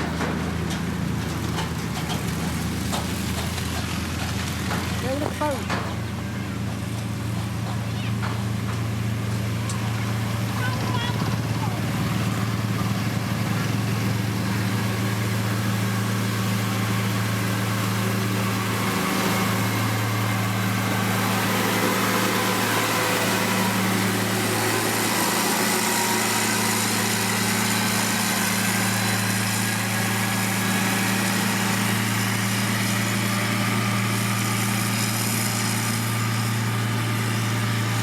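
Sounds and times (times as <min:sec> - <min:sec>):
diesel engine humming: 0:00.0 - 0:38.0.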